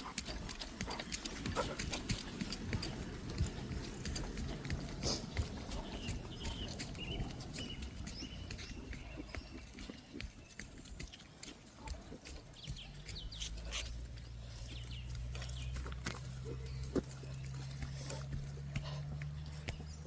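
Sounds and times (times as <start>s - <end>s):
dog snuffling and grunting: 0.0s - 10.1s, 11.4s - 20.0s
footsteps on dirt track: 0.0s - 20.0s.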